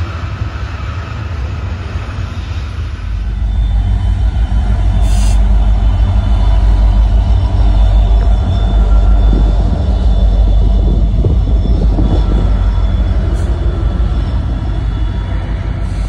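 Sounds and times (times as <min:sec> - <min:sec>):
diesel locomotive engine hum: 0:00.0 - 0:16.0
freight train rumbling past: 0:00.0 - 0:16.0.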